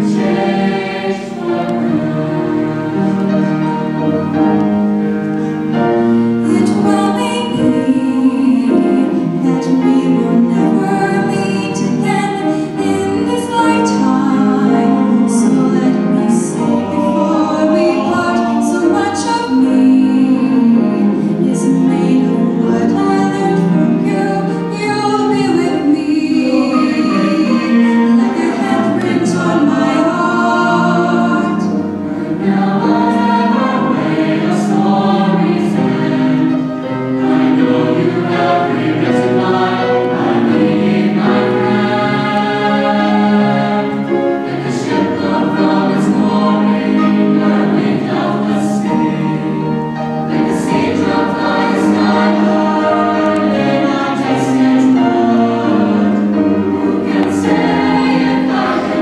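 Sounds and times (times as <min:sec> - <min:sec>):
choir singing chords: 0:00.0 - 0:59.0.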